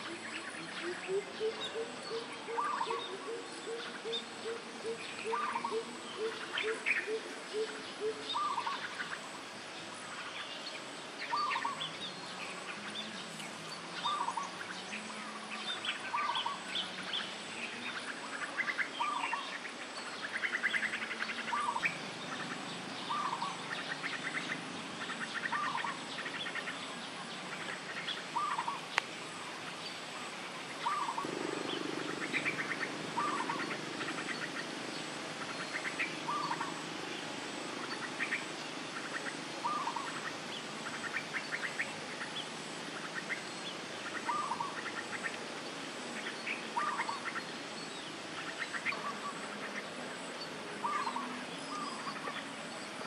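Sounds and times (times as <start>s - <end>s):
birds calling: 0.0s - 53.0s
faint steady high whine: 0.0s - 53.0s.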